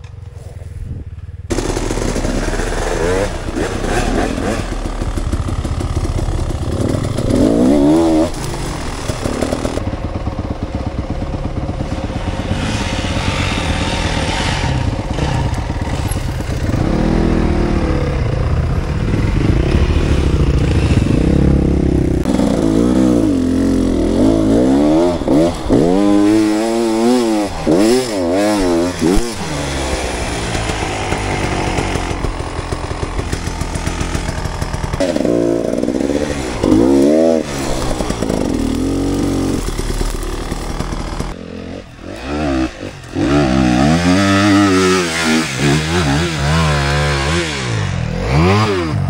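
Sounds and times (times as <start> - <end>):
dirt bike engine revving: 1.5 - 49.0.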